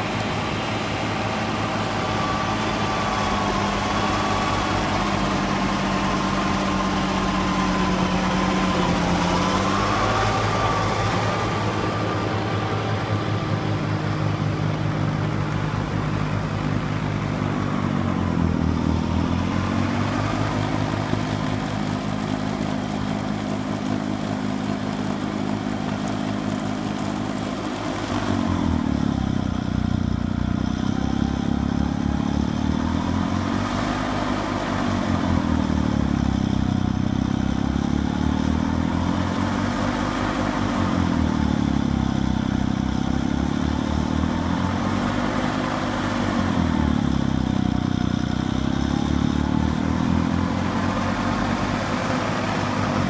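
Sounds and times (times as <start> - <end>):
snow blower throwing snow: 0.0 - 53.0
tractor engine under load: 0.0 - 53.0.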